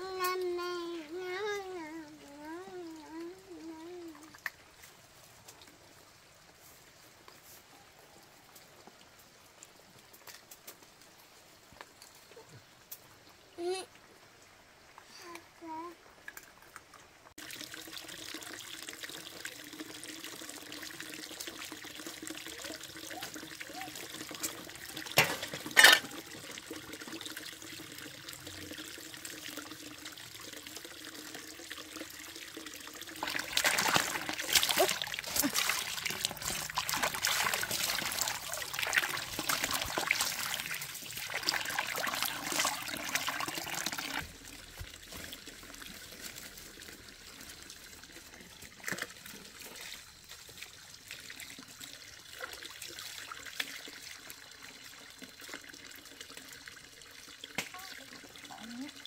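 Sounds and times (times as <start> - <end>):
water trickling and pouring: 0.0 - 59.0.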